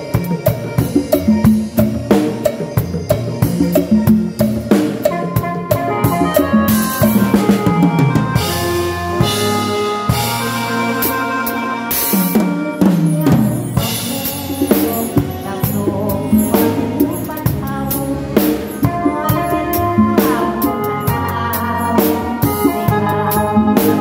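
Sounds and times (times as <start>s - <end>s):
drum kit playing: 0.0s - 24.0s
live band playing: 0.0s - 24.0s.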